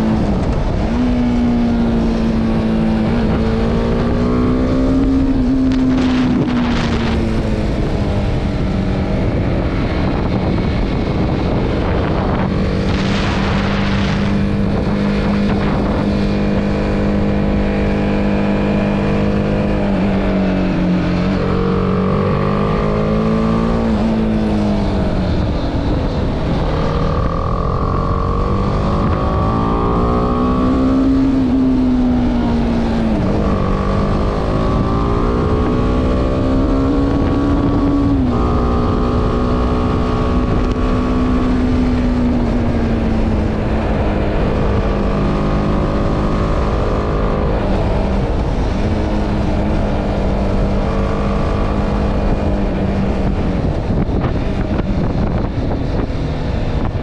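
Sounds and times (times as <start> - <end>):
motorcycle engine accelerating: 0.0 - 57.0
wind on microphone: 0.0 - 57.0.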